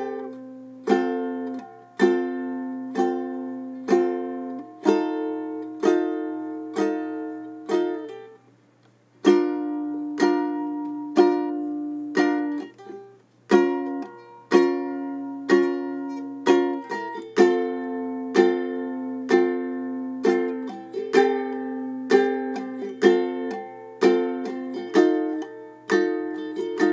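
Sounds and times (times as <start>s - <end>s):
strummed string instrument chords: 0.0s - 8.4s, 9.2s - 26.9s.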